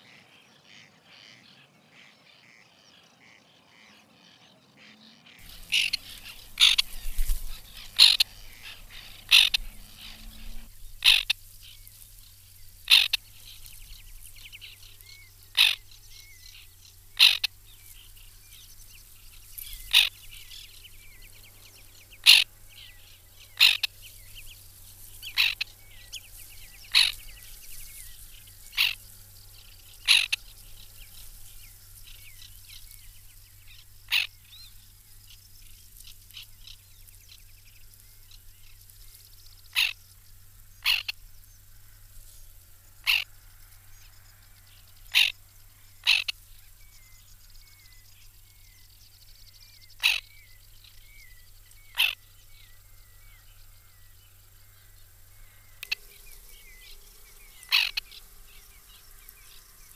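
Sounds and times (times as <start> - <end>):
faint bird chirping: 0.0 - 59.9
terns calling: 0.0 - 59.9.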